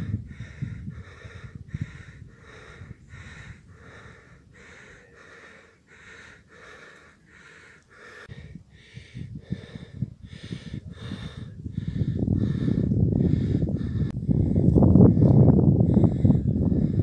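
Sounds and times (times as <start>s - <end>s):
wind rumble on microphone: 0.0s - 6.8s, 8.0s - 17.0s
person panting hard: 0.0s - 17.0s.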